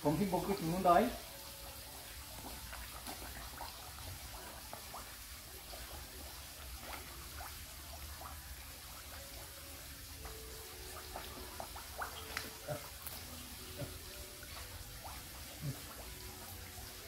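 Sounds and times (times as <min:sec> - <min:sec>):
water trickling: 0:00.0 - 0:17.0
fish splashing and slurping: 0:00.4 - 0:17.0.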